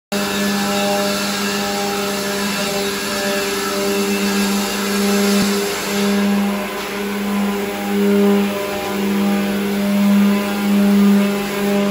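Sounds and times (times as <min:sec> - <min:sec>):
electric sanders on wood: 0:00.1 - 0:11.9.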